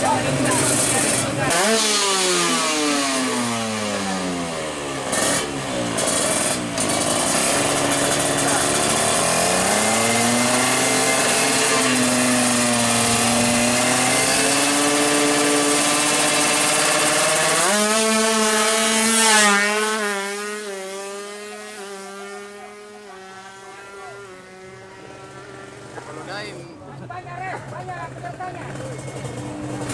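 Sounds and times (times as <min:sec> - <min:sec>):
two-stroke engine at high revs: 0:00.0 - 0:29.9.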